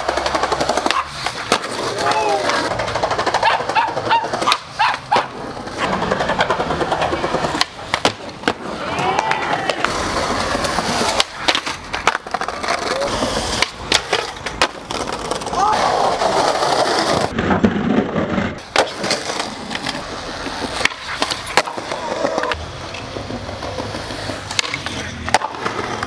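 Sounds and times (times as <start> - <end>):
skateboard clacks: 0.0 - 26.0
skateboard wheels rolling on concrete: 0.0 - 26.0.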